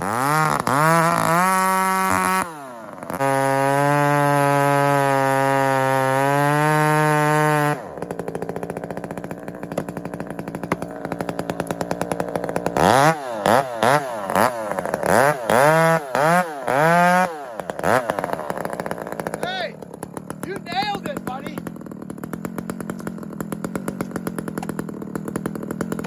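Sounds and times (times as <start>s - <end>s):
chainsaw at full throttle: 0.0s - 26.0s
chainsaw idling unevenly: 0.0s - 26.0s
chainsaw throttle blips: 0.0s - 26.0s.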